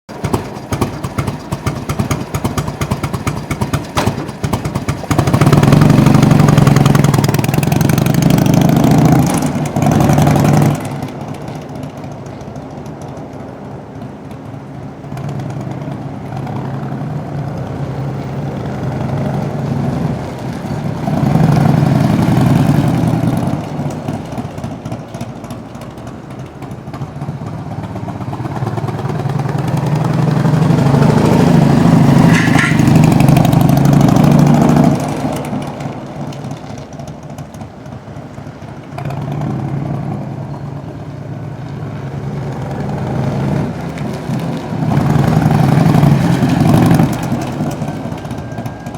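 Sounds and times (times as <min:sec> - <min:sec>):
motorcycle engine running: 0:00.1 - 0:48.9.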